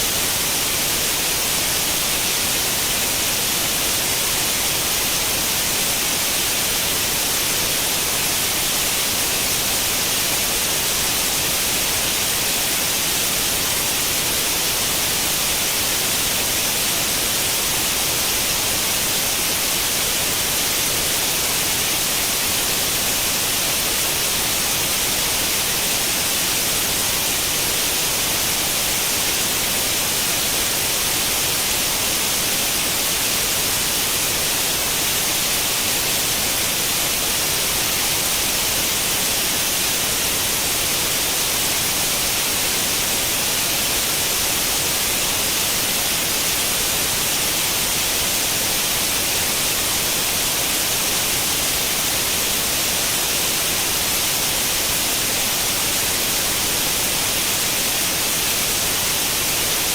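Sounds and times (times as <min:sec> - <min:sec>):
steady static hiss: 0:00.0 - 0:59.9.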